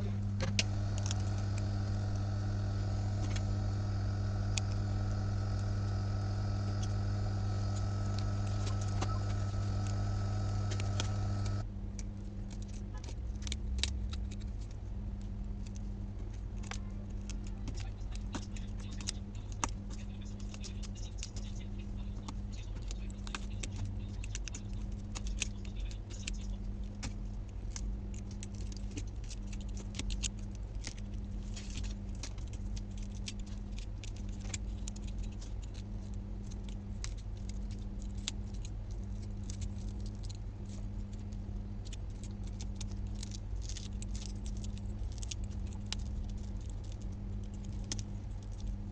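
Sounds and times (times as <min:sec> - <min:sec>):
steady low hum: 0:00.0 - 0:48.9
small tools clicking and scratching: 0:00.4 - 0:48.9.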